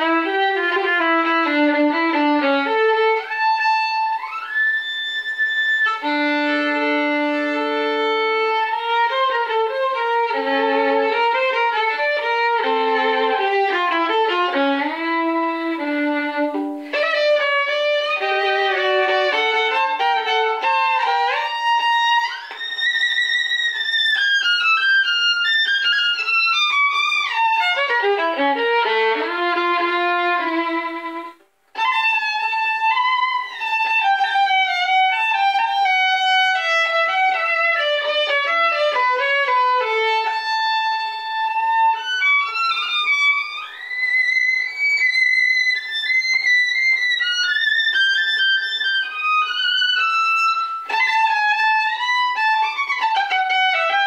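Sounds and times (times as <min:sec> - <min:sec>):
solo violin tango melody: 0:00.0 - 0:54.0.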